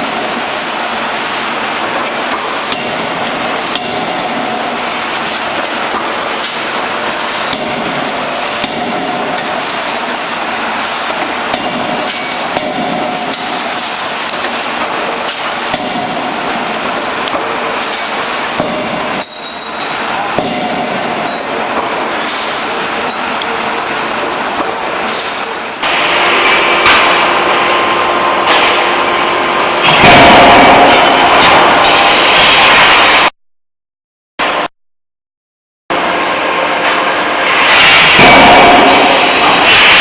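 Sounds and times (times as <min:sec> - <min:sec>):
forging hammer blows: 0:01.4 - 0:33.3, 0:36.0 - 0:40.0.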